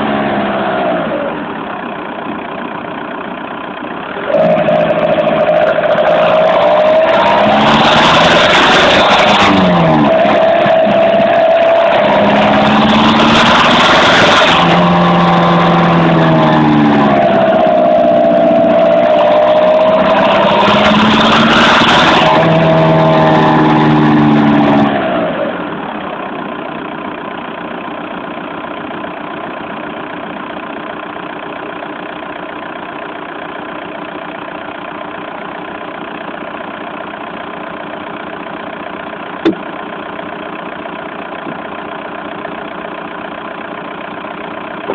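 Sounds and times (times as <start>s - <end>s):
diesel engine revving and idling: 0.0s - 44.9s.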